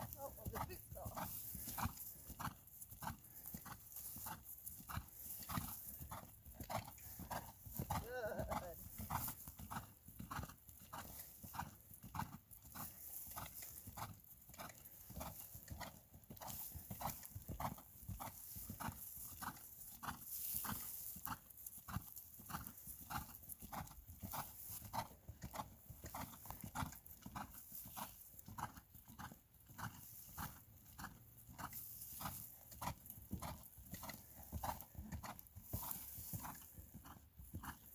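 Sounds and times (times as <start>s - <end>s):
hoofbeats on turf: 0.0s - 37.9s.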